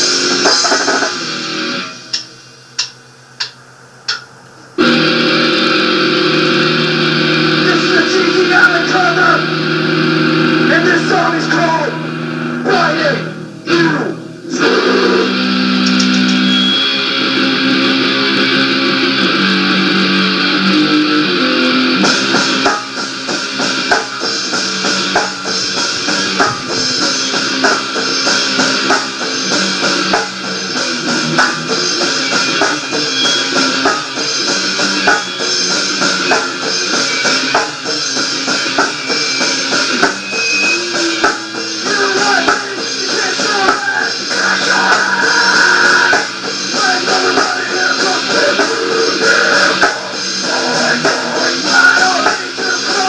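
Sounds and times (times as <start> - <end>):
electric guitar chords: 0.0 - 2.6, 4.3 - 53.0
drum kit beat: 0.0 - 9.4, 10.1 - 53.0
bass guitar: 4.8 - 53.0.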